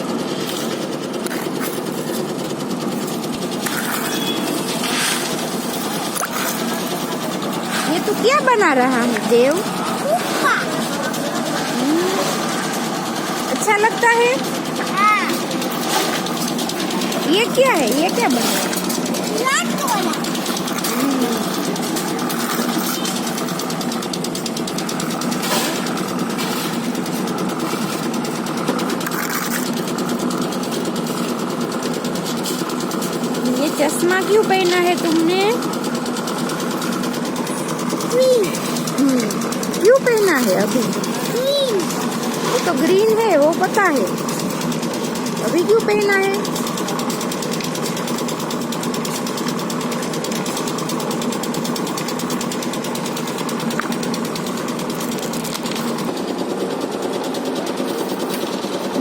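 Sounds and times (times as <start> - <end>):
small machine clattering: 0.0 - 59.0.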